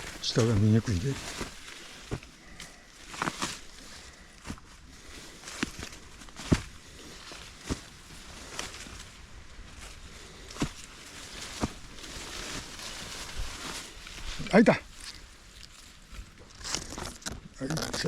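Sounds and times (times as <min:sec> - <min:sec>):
footsteps on dirt trail: 0:00.0 - 0:17.4.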